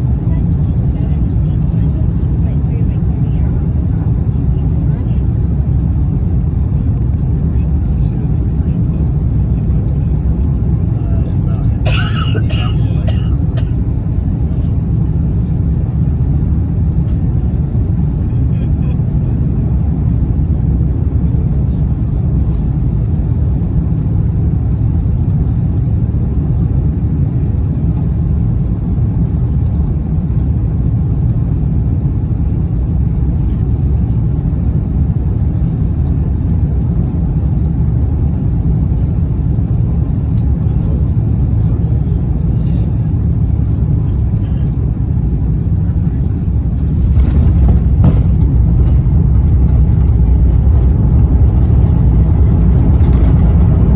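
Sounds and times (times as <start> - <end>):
aircraft cabin engine rumble: 0.0 - 53.9.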